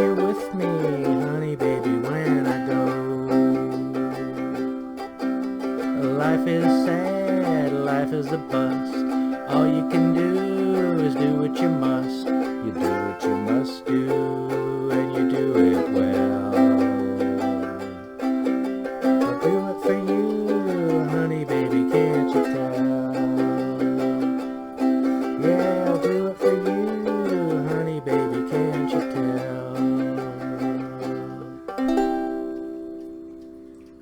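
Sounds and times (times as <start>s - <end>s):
slide ukulele playing: 0.0s - 34.0s.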